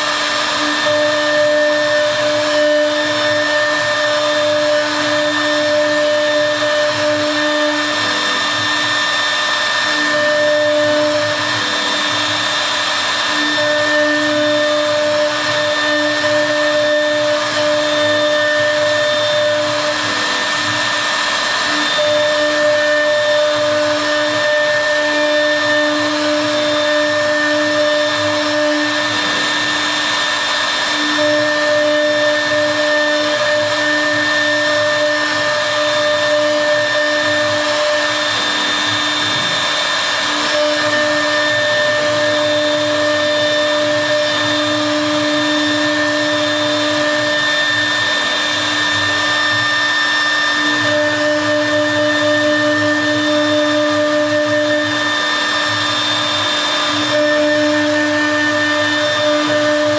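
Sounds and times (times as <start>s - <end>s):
machine tool whine: 0.0s - 59.9s.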